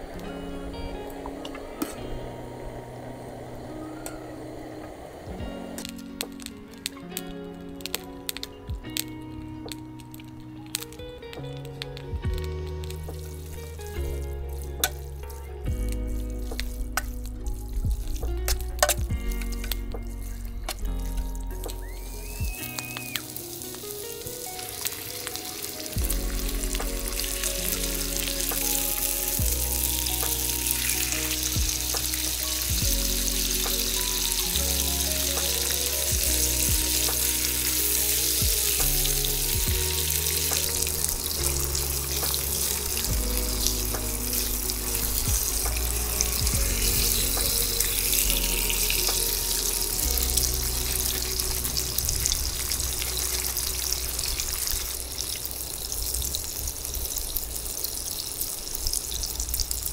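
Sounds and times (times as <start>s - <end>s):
background music with bass: 0.0s - 57.4s
steady hiss: 0.0s - 59.9s.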